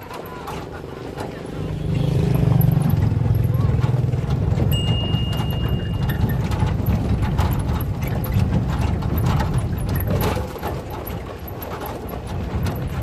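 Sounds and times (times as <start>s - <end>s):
rattling and clicking: 0.0s - 13.0s
vehicle rumble: 0.0s - 13.0s.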